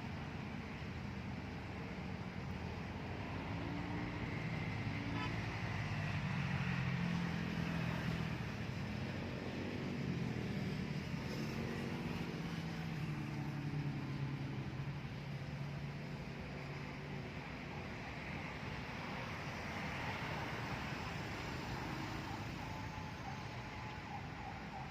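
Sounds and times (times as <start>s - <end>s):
traffic passing: 0.0s - 24.9s.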